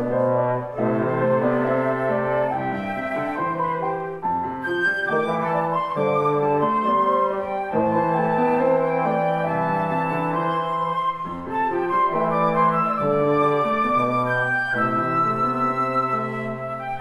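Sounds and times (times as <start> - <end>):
flutes playing melody: 0.0 - 17.0
piano chords: 0.0 - 17.0.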